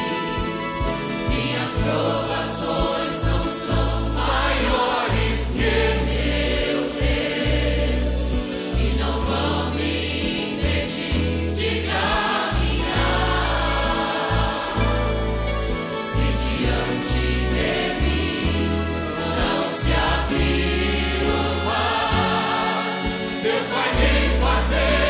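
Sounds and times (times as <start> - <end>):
choir singing worship music: 0.0 - 25.0
instrumental accompaniment: 0.0 - 25.0
sustained bass notes: 0.0 - 25.0.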